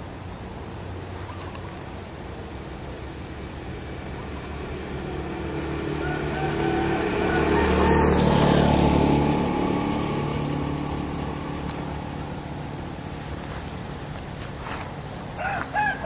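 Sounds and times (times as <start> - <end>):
motorcycle passing: 2.0 - 16.0.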